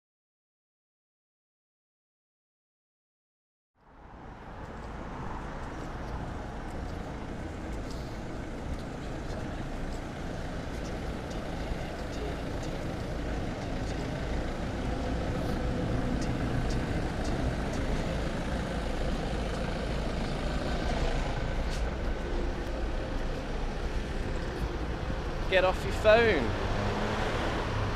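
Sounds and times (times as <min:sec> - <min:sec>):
road noise: 0:03.8 - 0:27.9
traffic engine rumble: 0:03.9 - 0:27.9.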